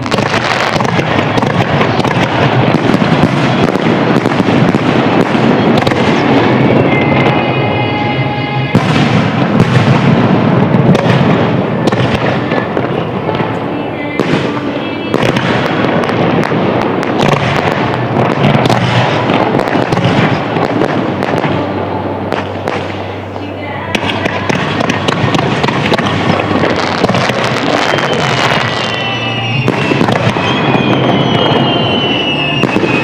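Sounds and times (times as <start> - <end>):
fireworks crackling: 0.0 - 33.0
fireworks shells bursting: 0.0 - 33.0.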